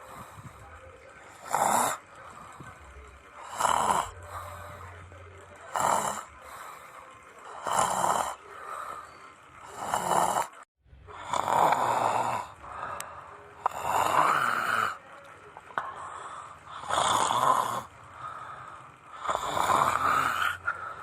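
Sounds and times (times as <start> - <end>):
person snoring: 1.3 - 2.8, 3.4 - 5.0, 5.7 - 15.0, 15.8 - 21.0.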